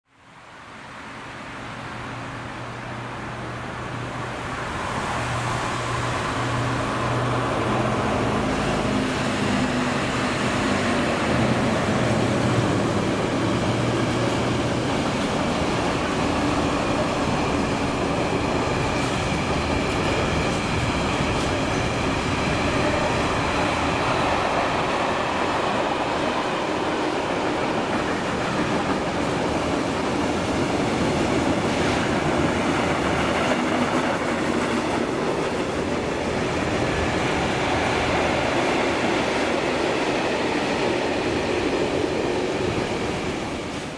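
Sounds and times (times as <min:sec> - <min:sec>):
train wagons rolling rumble: 0:03.6 - 0:43.9.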